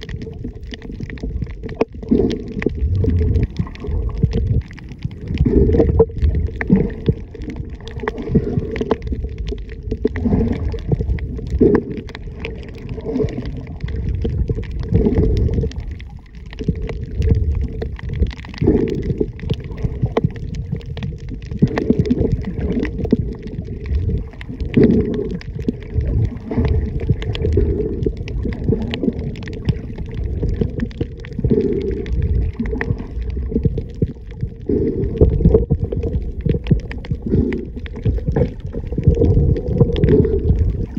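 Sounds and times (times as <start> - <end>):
muffled underwater water rumble: 0.0 - 40.9.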